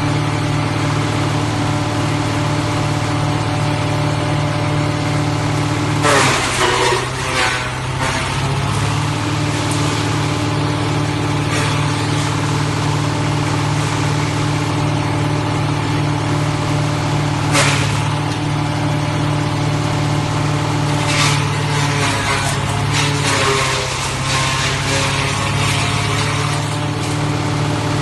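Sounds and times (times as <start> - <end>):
wood chipper diesel engine running: 0.0 - 28.0.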